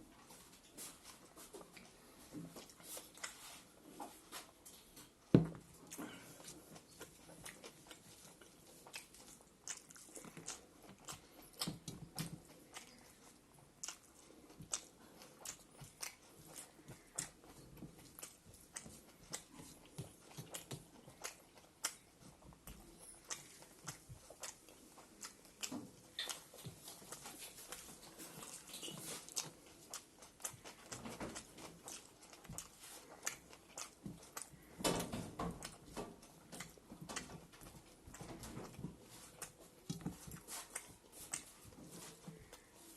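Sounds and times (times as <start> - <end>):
person chewing food: 0.0 - 42.9.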